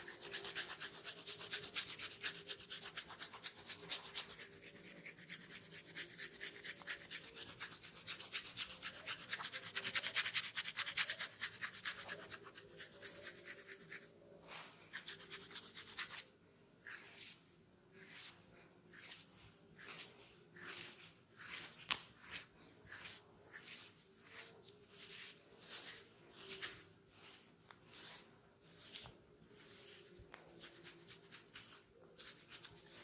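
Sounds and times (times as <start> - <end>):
fingers scratching scalp through hair: 0.0 - 14.1, 14.9 - 33.0.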